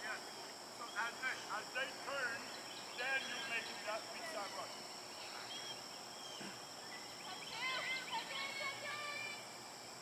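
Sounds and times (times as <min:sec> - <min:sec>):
distant players shouting: 0:00.0 - 0:09.5
steady high hiss: 0:00.0 - 0:10.0.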